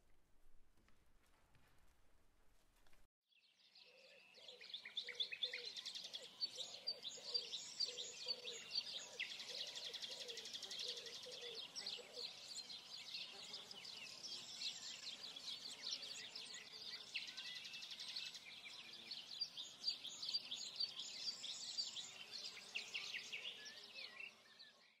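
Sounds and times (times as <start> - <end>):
small birds chirping: 3.4 - 25.0.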